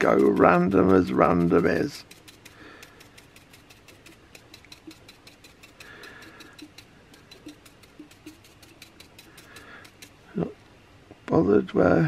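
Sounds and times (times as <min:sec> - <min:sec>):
brush tapping on glass jar: 0:00.0 - 0:10.2.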